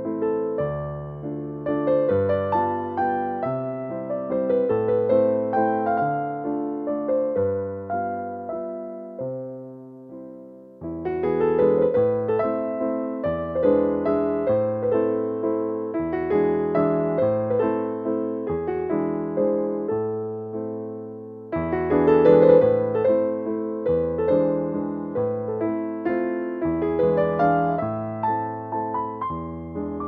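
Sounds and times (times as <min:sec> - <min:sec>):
gentle piano-like keyboard tune: 0:00.0 - 0:30.0.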